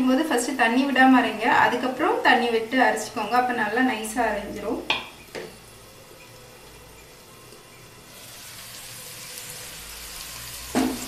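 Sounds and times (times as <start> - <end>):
okra sizzling in a pan: 0.0 - 11.0.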